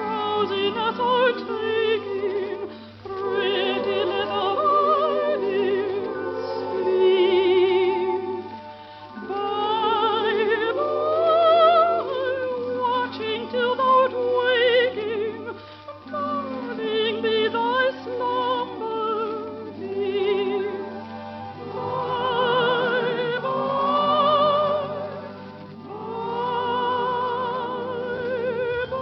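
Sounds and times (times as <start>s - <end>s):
woman singing operatically: 0.0s - 29.0s.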